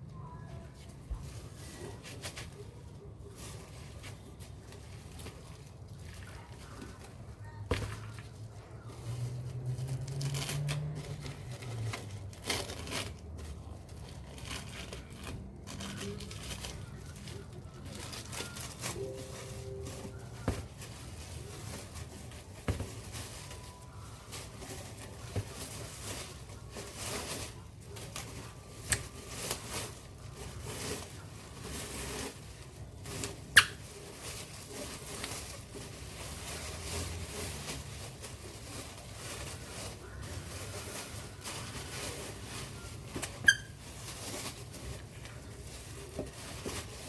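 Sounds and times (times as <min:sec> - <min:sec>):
scratching and rustling of wrapping: 0:00.0 - 0:47.0.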